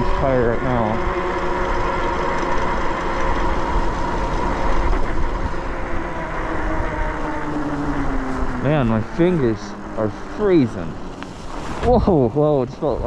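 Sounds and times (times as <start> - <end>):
electric motor whining: 0.0 - 13.0
tire noise: 0.0 - 13.0.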